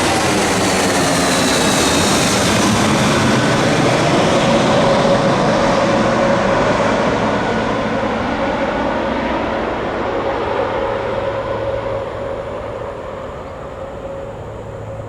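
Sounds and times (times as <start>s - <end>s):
high jet whine: 0.0s - 15.0s
jet engines passing: 0.0s - 15.0s.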